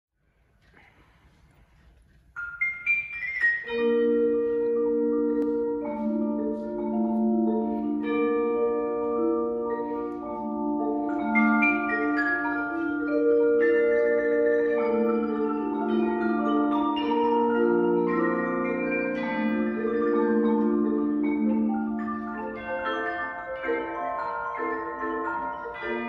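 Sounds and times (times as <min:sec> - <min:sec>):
marimbas vibraphone and chimes: 0:02.4 - 0:26.0.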